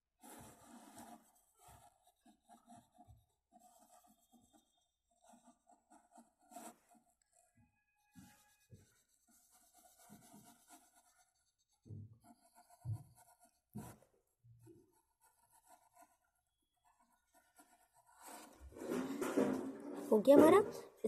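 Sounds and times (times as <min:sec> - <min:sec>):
colored pencil scratching: 0:00.2 - 0:20.6.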